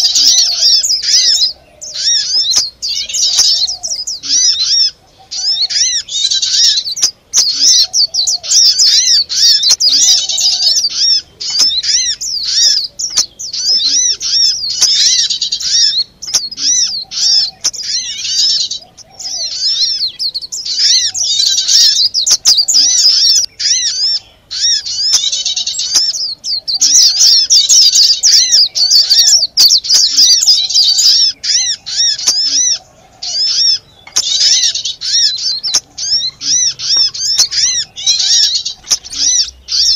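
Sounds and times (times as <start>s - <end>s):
small songbirds chattering: 0.0s - 39.9s.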